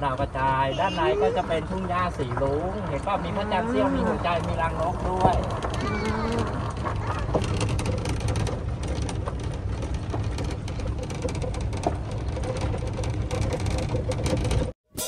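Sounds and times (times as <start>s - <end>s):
golf cart running rumble: 0.0s - 14.8s.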